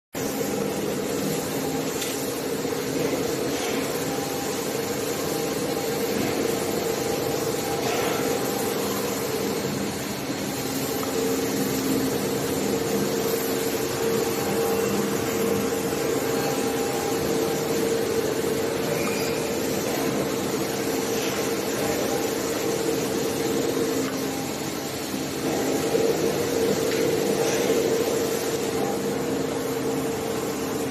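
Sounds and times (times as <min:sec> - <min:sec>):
machinery hum: 0:00.2 - 0:30.9.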